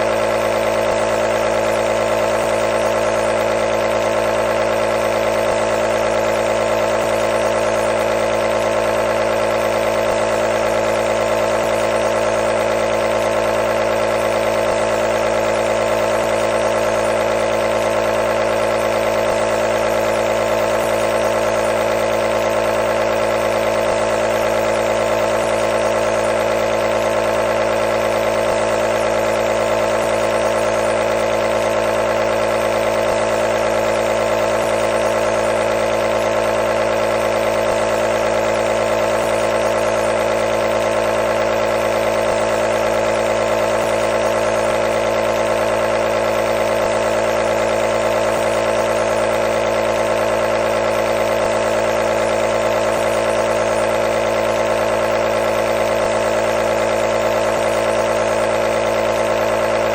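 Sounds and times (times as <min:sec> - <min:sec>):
electric compressor motor humming: 0:00.0 - 0:59.9.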